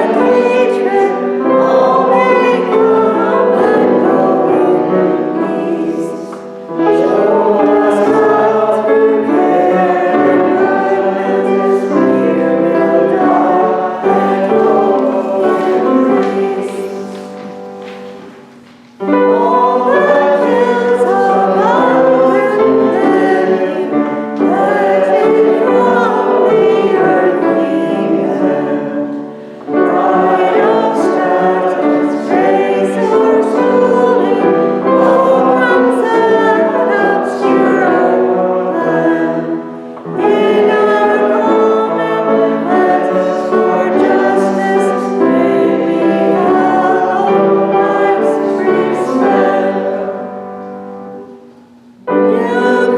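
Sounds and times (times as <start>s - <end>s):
instrumental accompaniment: 0.0s - 52.9s
voices singing a hymn: 0.0s - 52.9s.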